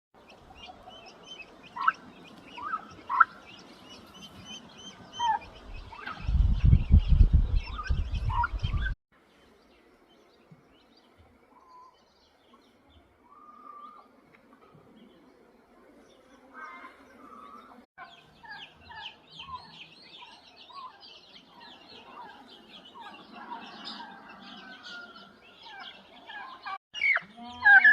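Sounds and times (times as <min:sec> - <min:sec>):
birds chirping and calling: 0:00.2 - 0:27.9.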